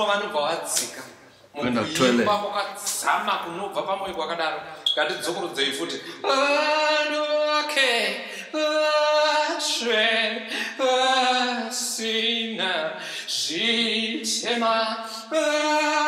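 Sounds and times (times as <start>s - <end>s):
man singing a cappella: 0.0s - 16.0s.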